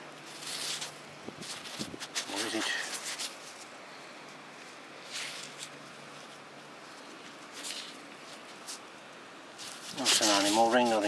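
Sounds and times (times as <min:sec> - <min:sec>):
gloved hands rustling and scraping: 0:00.0 - 0:11.0
steady low hiss: 0:00.0 - 0:11.0.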